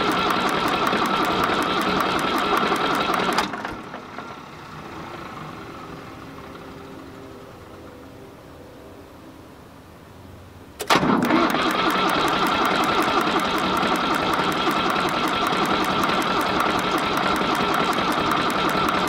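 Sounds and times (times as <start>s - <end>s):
diesel engine cranking on starter: 0.0s - 7.8s, 10.8s - 19.0s.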